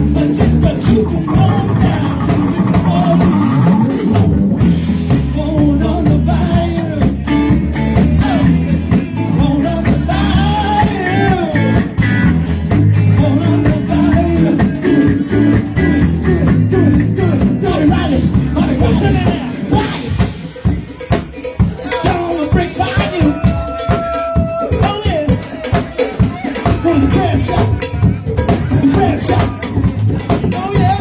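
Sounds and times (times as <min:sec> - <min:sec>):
bass: 0:00.0 - 0:31.0
drums: 0:00.0 - 0:31.0.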